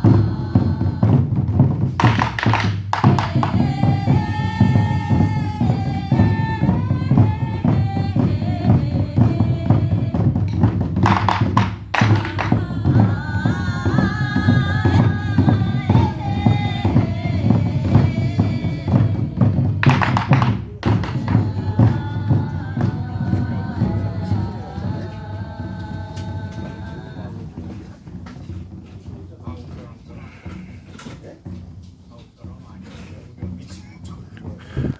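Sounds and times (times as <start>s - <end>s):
drum ensemble playing: 0.0s - 34.9s.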